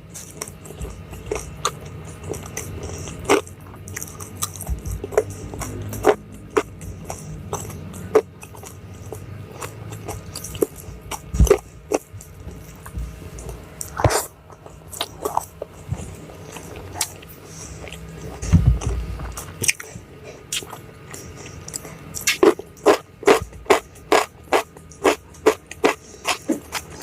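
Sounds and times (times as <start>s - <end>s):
chewing and biting food: 0.0s - 27.0s.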